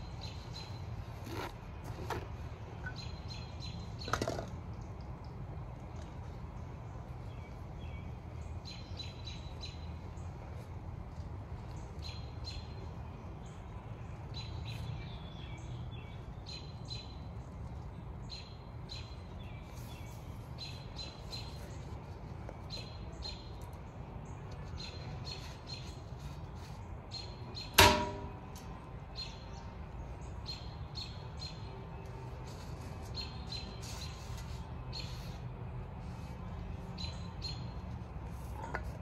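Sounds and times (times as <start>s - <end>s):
small birds chirping: 0.0s - 27.8s, 28.4s - 39.0s.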